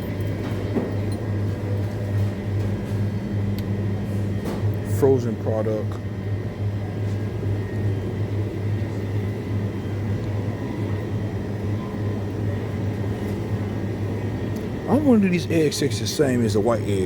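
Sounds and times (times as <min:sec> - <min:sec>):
freezer cases humming: 0:00.0 - 0:17.0.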